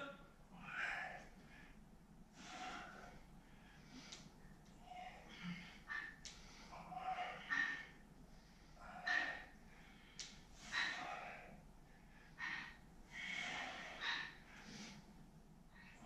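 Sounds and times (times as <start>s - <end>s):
short forceful breaths: 0.7s - 16.0s.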